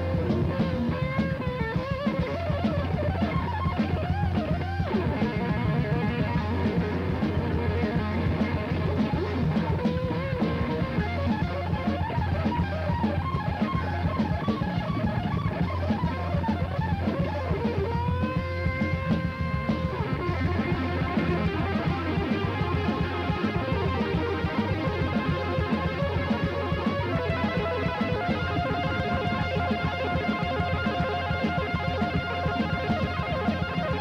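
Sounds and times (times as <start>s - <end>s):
drum kit: 0.0s - 34.0s
electric guitars: 0.0s - 34.0s.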